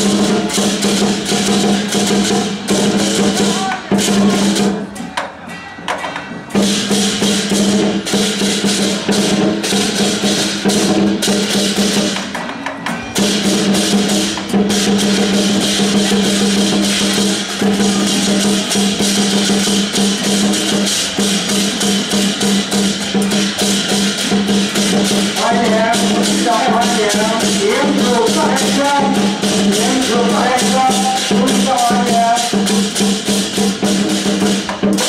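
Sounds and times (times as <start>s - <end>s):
large drum rolls: 0.0s - 5.0s, 6.2s - 12.2s, 13.1s - 35.0s
cymbals clashing: 0.0s - 35.0s.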